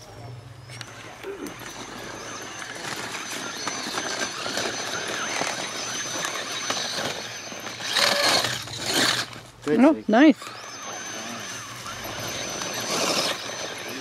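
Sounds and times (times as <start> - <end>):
electric motor whining: 0.6 - 14.0
tyres crunching on rocks: 0.8 - 9.6, 10.5 - 14.0.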